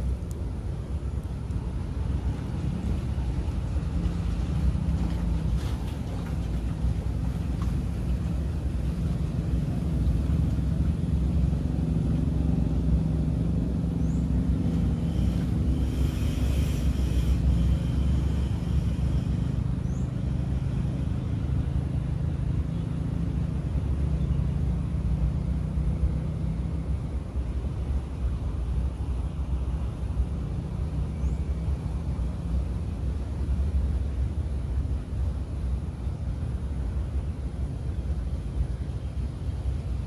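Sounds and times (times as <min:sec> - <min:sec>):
constant hum: 0:00.0 - 0:40.0
low engine rumble: 0:00.0 - 0:40.0.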